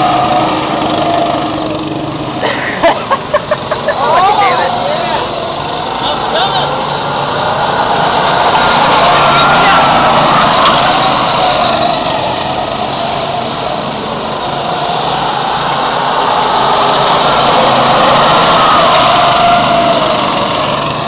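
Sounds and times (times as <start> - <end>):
go-kart engines passing by: 0.0 - 21.0.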